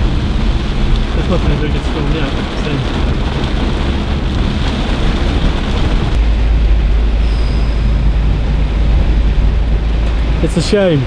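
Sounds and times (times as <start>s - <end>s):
rain on car: 0.0s - 7.2s, 8.1s - 11.0s
road and engine rumble: 0.0s - 11.0s.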